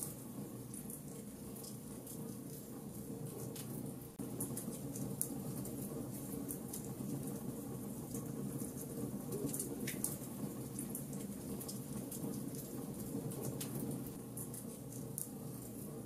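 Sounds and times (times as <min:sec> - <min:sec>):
fire crackling and popping: 0:00.7 - 0:16.0.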